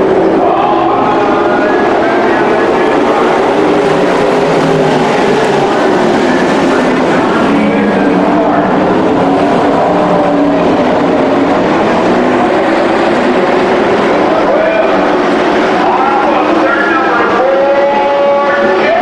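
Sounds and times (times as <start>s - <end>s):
race truck engines: 0.0s - 19.0s.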